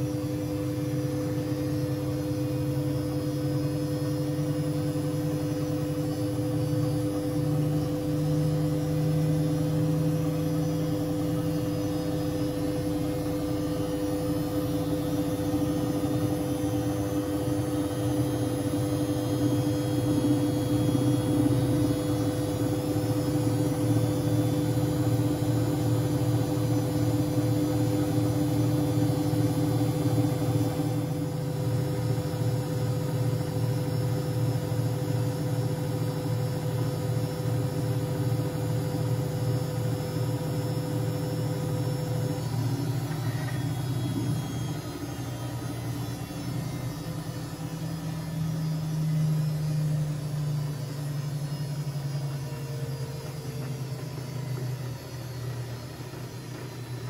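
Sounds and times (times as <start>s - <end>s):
washing machine running: 0.0s - 57.0s.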